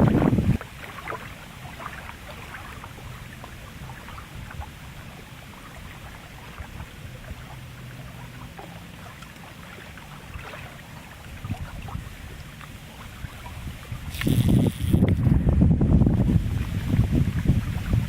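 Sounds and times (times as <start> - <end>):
wind rumbling on microphone: 0.0 - 0.7, 1.7 - 8.2, 10.2 - 18.0.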